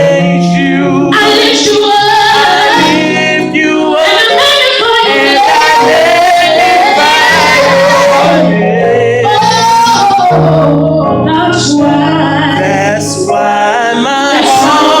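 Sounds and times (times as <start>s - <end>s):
sustained instrumental accompaniment: 0.0s - 15.0s
woman singing gospel vocal: 0.0s - 15.0s.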